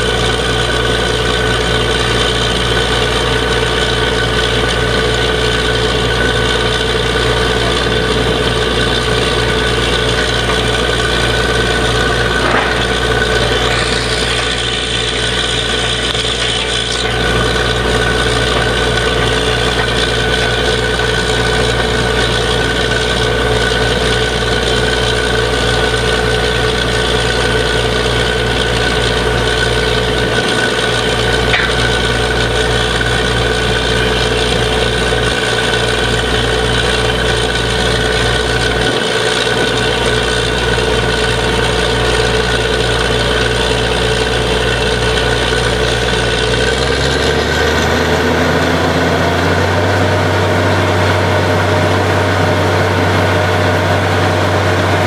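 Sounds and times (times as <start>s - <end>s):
drilling rig engine and compressor drone: 0.0s - 55.0s.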